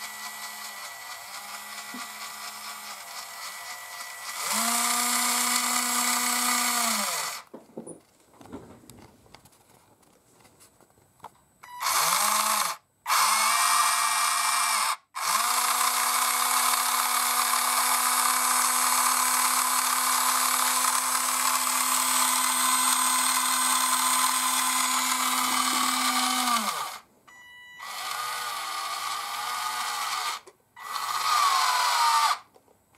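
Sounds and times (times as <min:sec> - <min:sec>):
small electric motor whine: 0:00.0 - 0:07.5, 0:11.7 - 0:27.0, 0:27.8 - 0:32.5.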